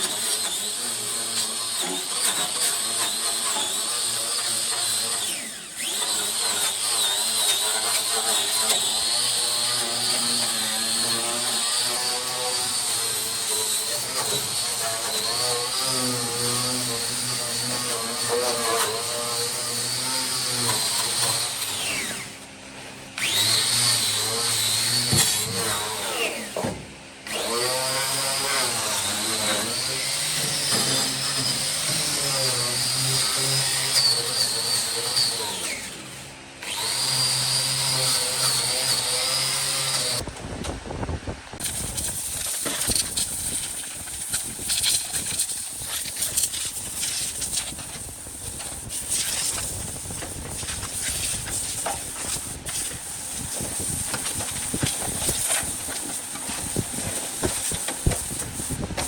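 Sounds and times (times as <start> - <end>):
power tool motor whine: 0.0 - 40.3, 41.5 - 59.0.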